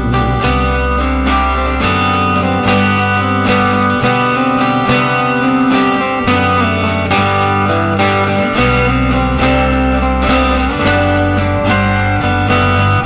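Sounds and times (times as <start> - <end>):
bass notes: 0.0 - 13.0
strummed acoustic guitar: 0.0 - 13.0.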